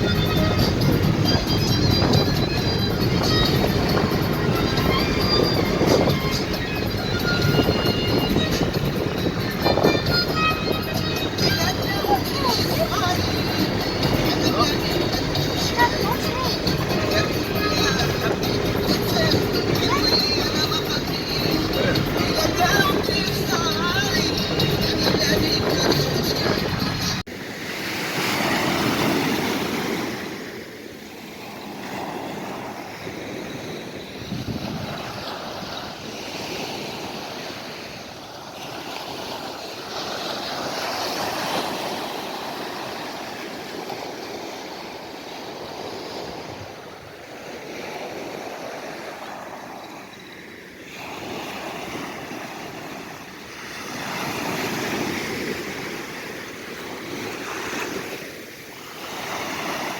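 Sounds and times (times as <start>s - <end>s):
sea waves washing onto shore: 0.0s - 59.9s.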